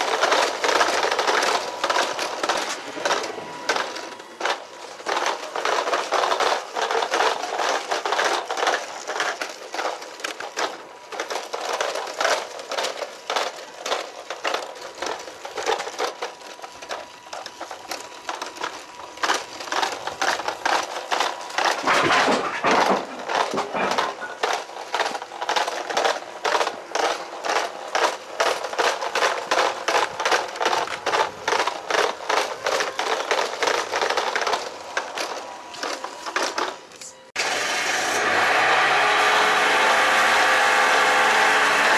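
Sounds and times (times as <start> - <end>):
toy car wheels crackling on stone: 0.0 - 37.4, 39.7 - 41.9.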